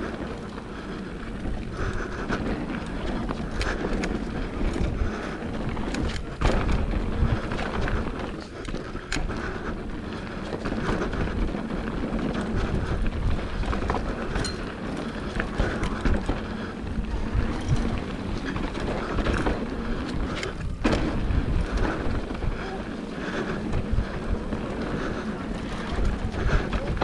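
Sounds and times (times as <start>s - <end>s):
bike rattling over bumps: 0.0s - 27.0s
bike tyres rolling on dirt: 0.0s - 27.0s
wind on microphone: 1.2s - 27.0s.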